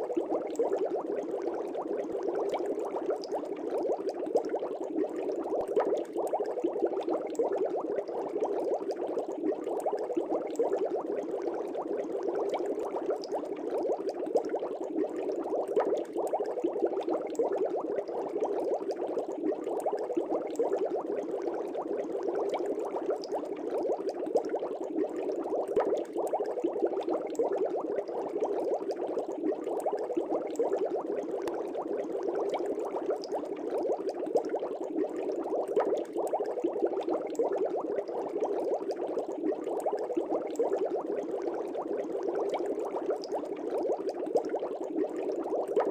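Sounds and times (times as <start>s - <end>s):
aquarium bubbling: 0.0s - 45.9s.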